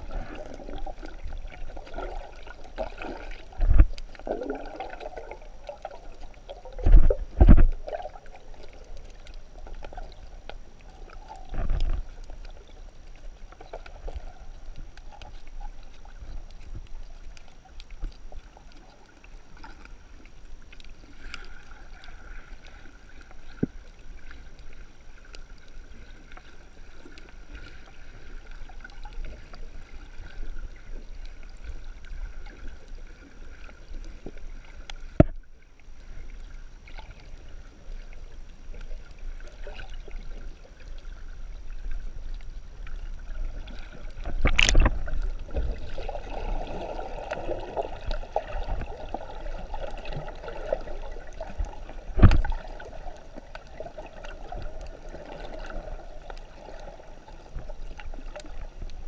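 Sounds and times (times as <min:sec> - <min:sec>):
muffled underwater water noise: 0:00.0 - 0:59.0.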